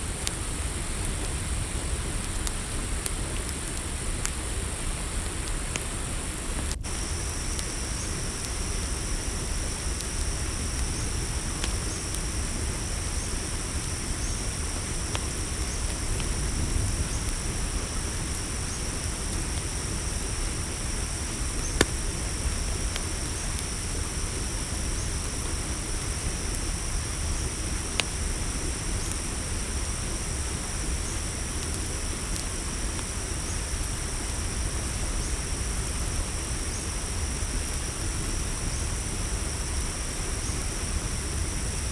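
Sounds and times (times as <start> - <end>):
campfire crackling pops: 0.0 - 35.0, 35.6 - 41.9
crickets trilling: 0.0 - 41.9.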